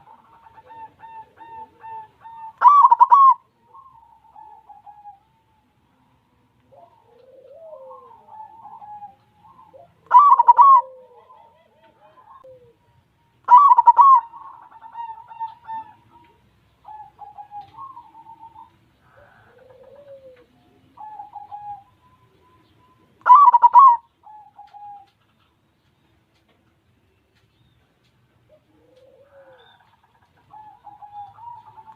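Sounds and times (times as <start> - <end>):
dove cooing: 0.0 - 25.6, 28.4 - 31.9.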